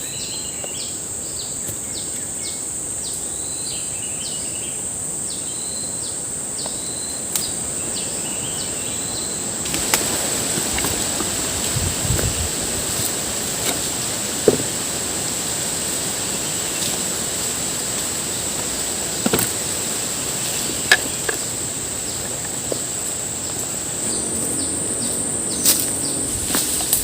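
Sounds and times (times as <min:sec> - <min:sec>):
forest insects droning: 0:00.0 - 0:27.0.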